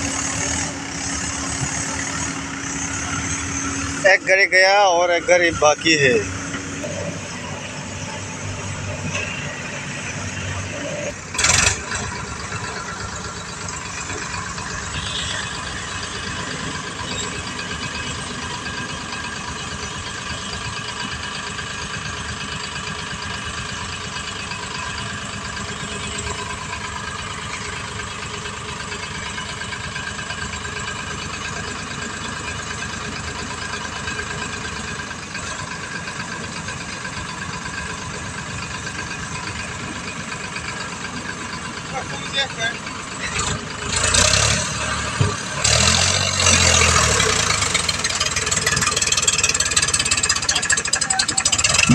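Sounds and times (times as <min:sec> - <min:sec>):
diesel engines running: 0:00.0 - 0:51.9.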